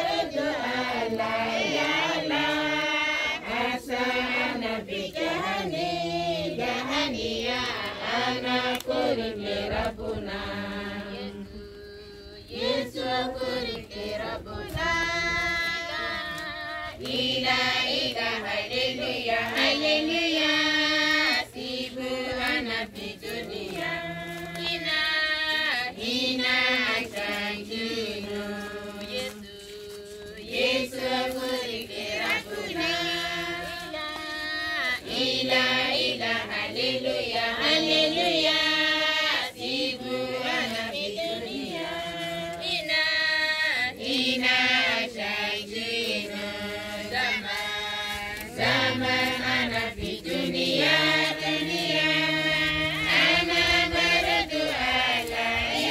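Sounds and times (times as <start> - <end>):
group singing a hymn: 0.0 - 55.9.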